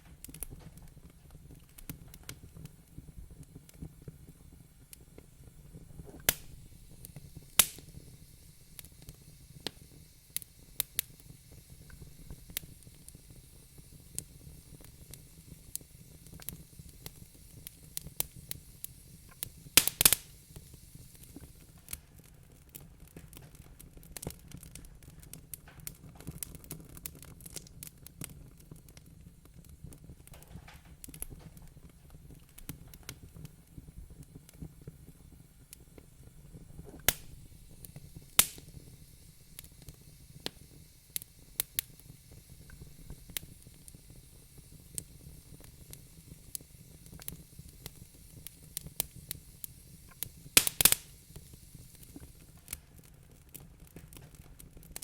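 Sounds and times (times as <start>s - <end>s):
sharp pops and snaps: 0.0s - 55.0s
wood fire crackling: 0.0s - 55.0s.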